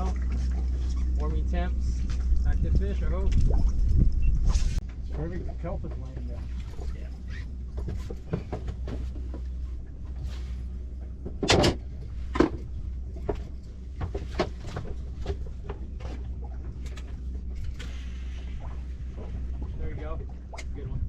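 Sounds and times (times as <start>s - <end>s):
knocks and clatter on boat: 0.0s - 21.0s
steady low hum: 0.0s - 21.0s.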